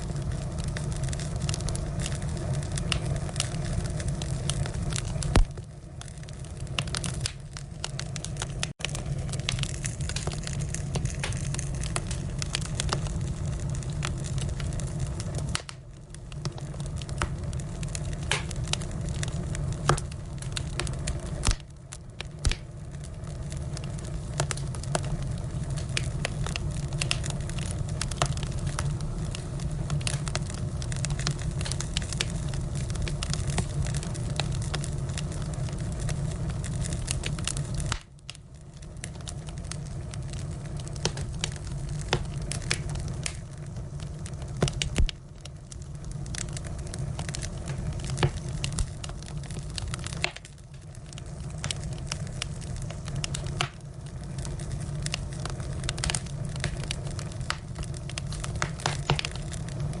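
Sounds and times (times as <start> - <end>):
firewood crackling and popping: 0.0 - 60.0
low rumble of flames: 0.0 - 60.0.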